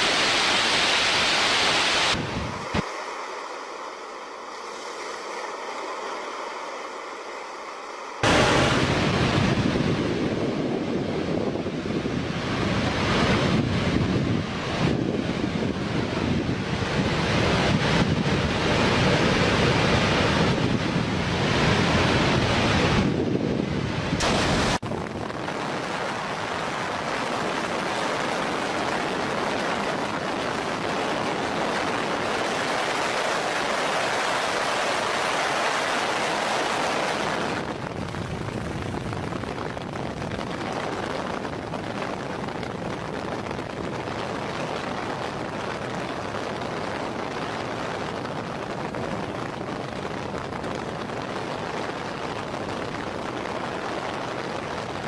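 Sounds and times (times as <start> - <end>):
water rushing through a dam: 0.0 - 55.0
wind buffeting microphone: 8.2 - 55.0.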